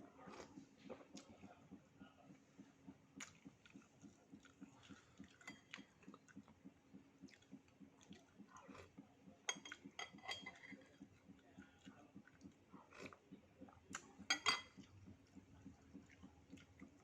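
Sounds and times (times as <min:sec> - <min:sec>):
close-miked wet chewing: 0:00.1 - 0:17.0.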